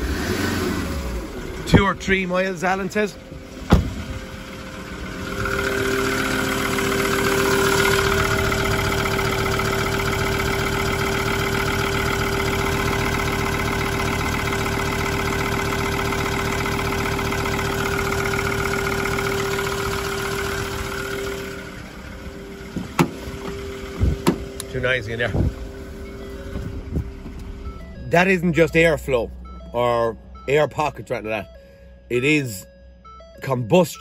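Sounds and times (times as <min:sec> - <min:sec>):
diesel engine idling clatter: 0:00.0 - 0:31.7.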